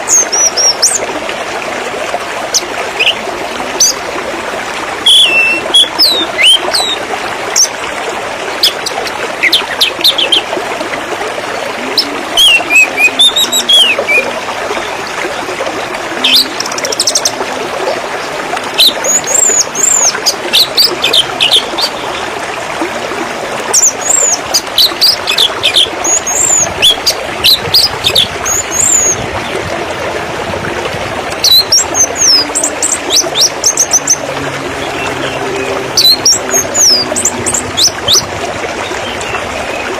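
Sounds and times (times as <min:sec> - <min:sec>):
trickling splashing water: 0:00.0 - 0:39.9.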